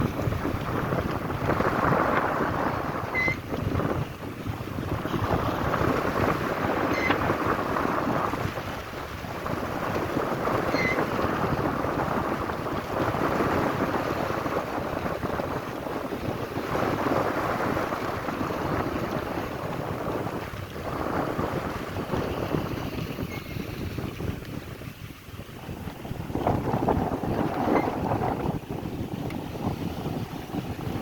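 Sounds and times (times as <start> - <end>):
rough sea: 0.0 - 31.0
strong wind on microphone: 0.0 - 31.0.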